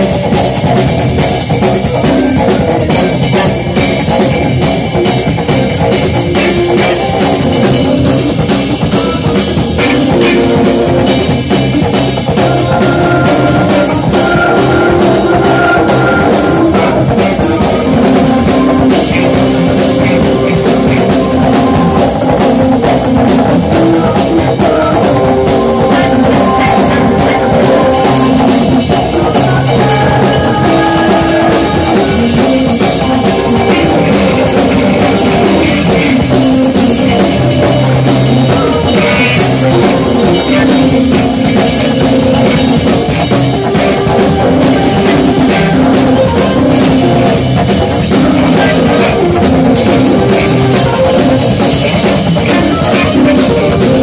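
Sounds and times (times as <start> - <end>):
drum kit with busy cymbals: 0.0 - 54.0
jazz-rock band playing: 0.0 - 54.0.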